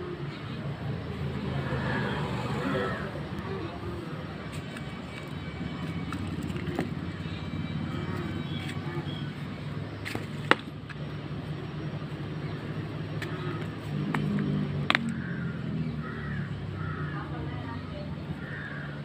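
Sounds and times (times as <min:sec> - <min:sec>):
low engine-like hum: 0:00.0 - 0:19.0.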